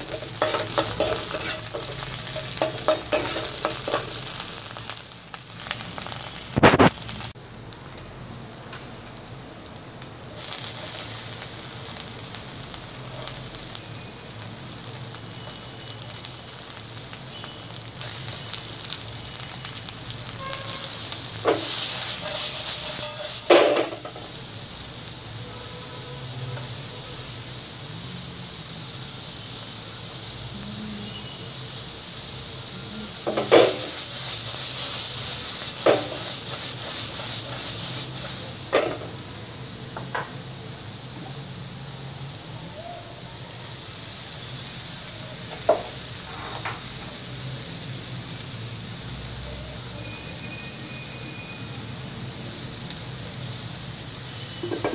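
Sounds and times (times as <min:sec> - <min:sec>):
vegetables sizzling in a wok: 0:00.0 - 0:54.9.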